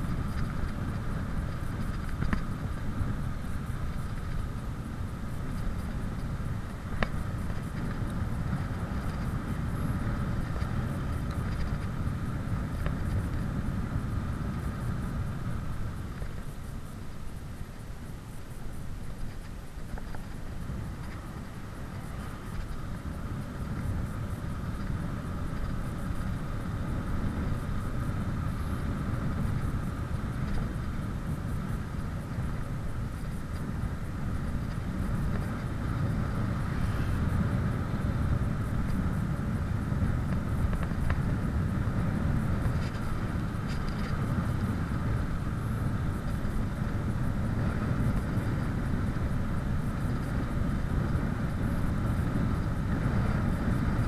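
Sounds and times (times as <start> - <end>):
bicycle tyre noise: 0.0 - 54.0
wind rushing over microphone: 0.0 - 54.0.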